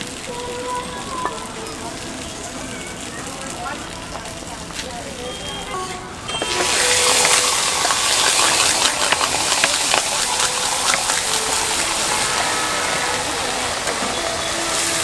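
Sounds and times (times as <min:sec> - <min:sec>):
water sizzling on hot griddle: 0:00.0 - 0:15.0.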